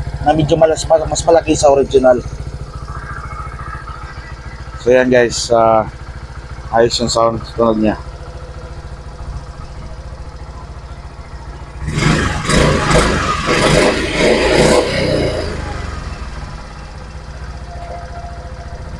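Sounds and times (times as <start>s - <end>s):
scooter engine idling: 0.0s - 18.9s
scooter engine revving: 0.0s - 18.9s.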